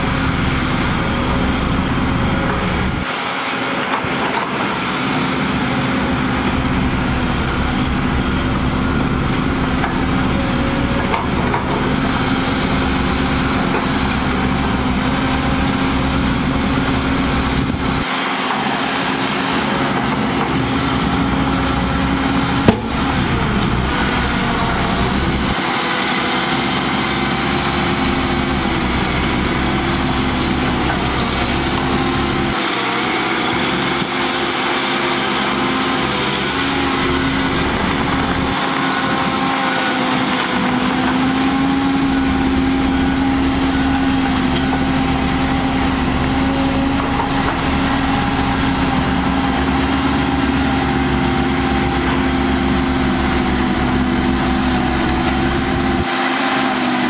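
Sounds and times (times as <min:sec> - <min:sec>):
bulldozer diesel engine running: 0:00.0 - 0:57.0
other machine engines running: 0:00.0 - 0:57.0.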